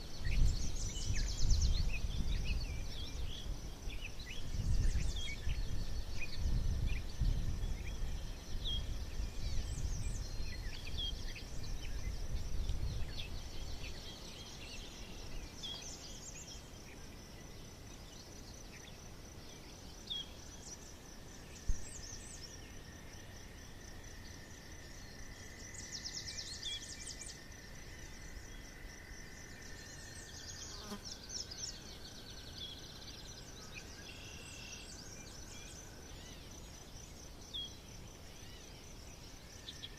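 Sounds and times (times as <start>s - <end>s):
high insect trill: 0.0s - 39.9s.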